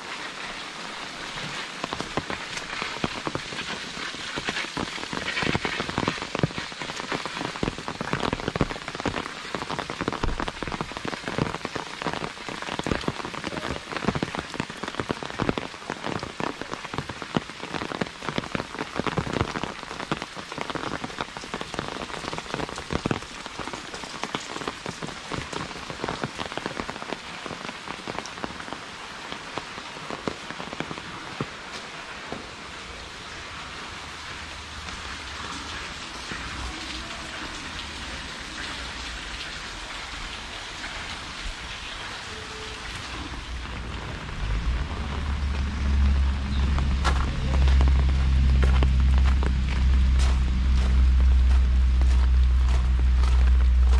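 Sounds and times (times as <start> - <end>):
rain drops tapping on umbrella: 0.0 - 53.9.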